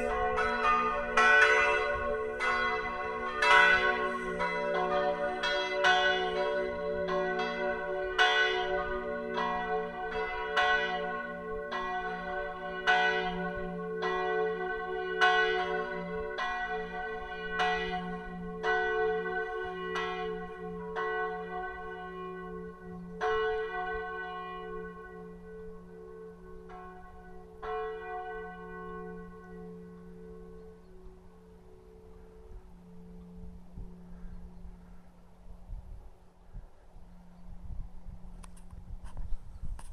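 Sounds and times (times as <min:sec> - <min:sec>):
church bells pealing: 0:00.0 - 0:35.2.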